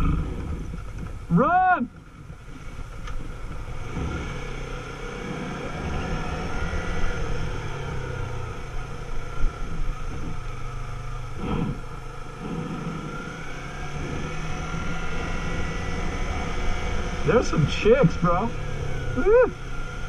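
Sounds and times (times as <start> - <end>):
rumbling noise on microphone: 0.0 - 18.4
motorcycle engine running: 0.0 - 20.0.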